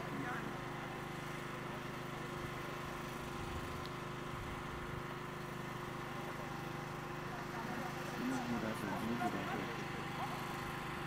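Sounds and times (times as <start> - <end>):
steady engine hum: 0.0 - 11.0.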